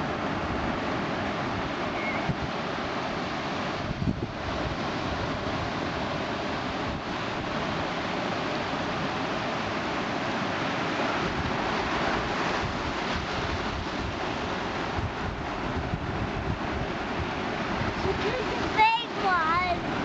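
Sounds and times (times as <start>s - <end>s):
ocean surf washing up beach: 0.0s - 20.0s
wind buffeting microphone: 0.0s - 20.0s.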